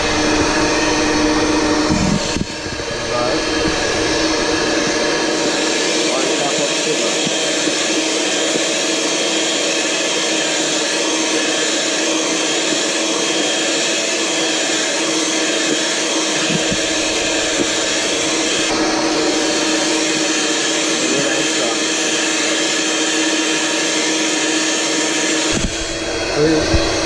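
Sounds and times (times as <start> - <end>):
electric hand mixer whisking: 0.0 - 27.0.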